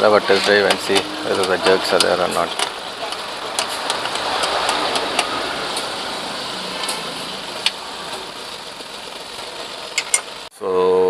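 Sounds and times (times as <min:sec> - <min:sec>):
petrol engine running: 0:00.0 - 0:10.5.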